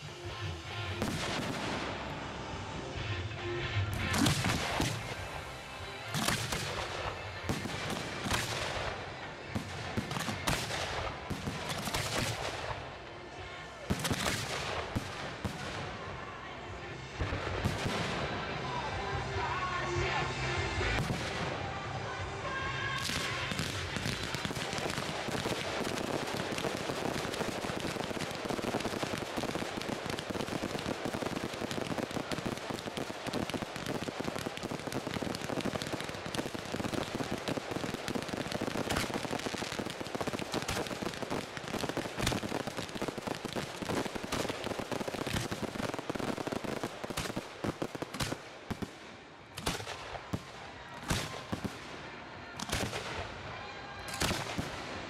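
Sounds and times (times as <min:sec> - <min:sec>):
fireworks crackling and exploding: 0:00.0 - 0:55.0.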